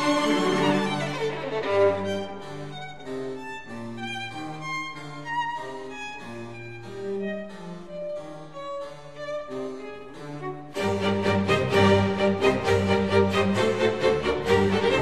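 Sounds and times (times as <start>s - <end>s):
low accompanying notes: 0.0s - 15.0s
violin melody: 0.0s - 15.0s.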